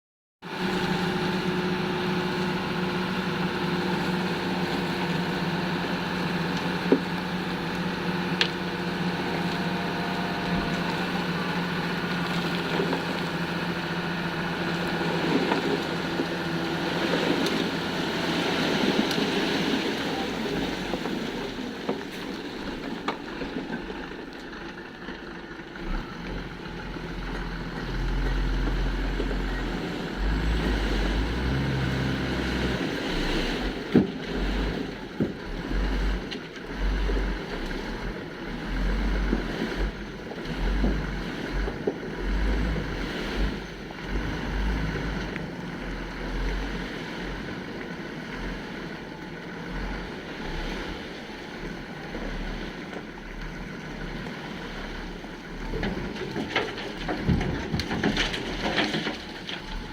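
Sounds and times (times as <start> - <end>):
engine running: 0.4 - 59.9.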